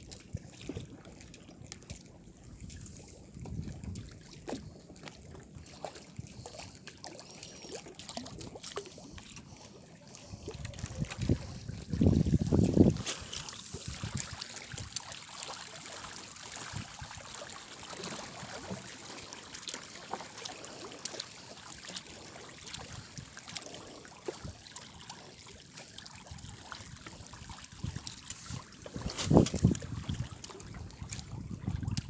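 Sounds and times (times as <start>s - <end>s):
water lapping against boat: 0.0s - 32.0s.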